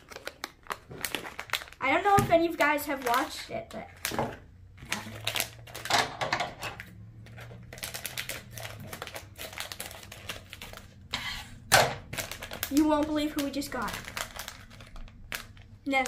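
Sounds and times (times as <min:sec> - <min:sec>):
foil crinkling: 0:00.0 - 0:04.2, 0:04.8 - 0:05.9, 0:07.2 - 0:16.0.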